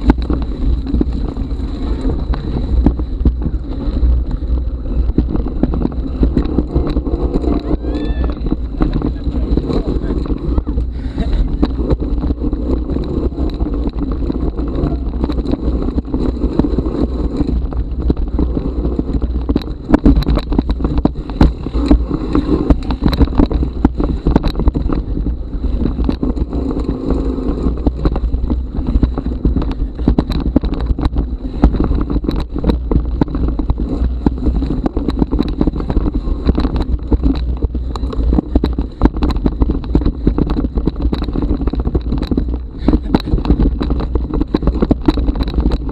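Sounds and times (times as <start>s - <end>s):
bike knocks and rattles: 0.0s - 45.9s
bike tyres rumbling on trail: 0.0s - 45.9s.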